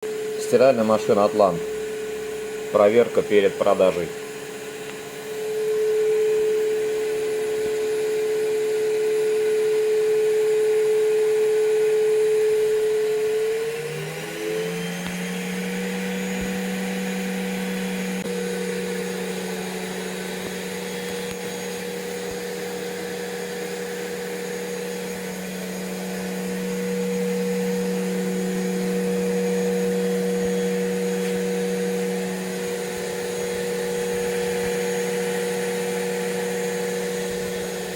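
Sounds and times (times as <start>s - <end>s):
washing machine motor whine: 0.0s - 37.9s.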